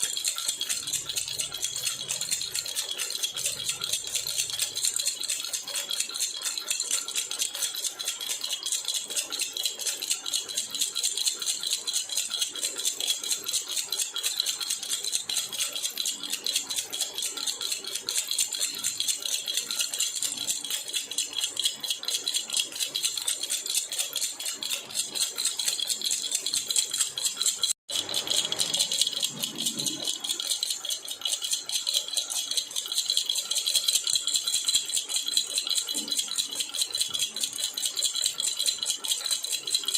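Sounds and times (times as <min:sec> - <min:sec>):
baby rattle shaken: 0:00.0 - 0:09.5, 0:11.5 - 0:39.9.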